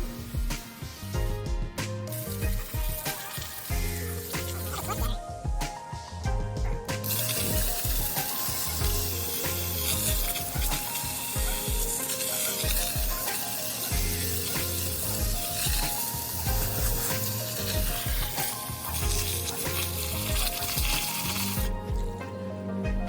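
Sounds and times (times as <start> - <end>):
pressure washer spray hissing: 0.0 - 1.2, 1.8 - 5.2, 6.9 - 22.2
background music with beat: 0.0 - 23.0.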